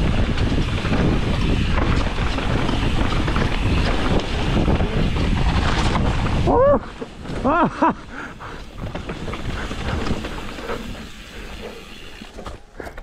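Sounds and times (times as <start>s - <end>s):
wind buffeting microphone: 0.0s - 12.5s
bike clicks and rattles: 0.0s - 13.0s
bike tyres rolling on dirt: 0.0s - 13.0s.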